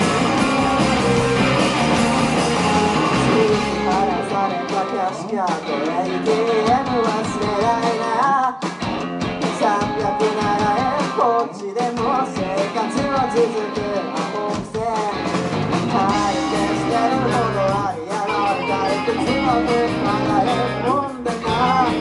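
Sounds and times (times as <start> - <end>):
live rock band playing: 0.0 - 22.0
man singing lead vocal: 2.8 - 8.8, 9.4 - 22.0.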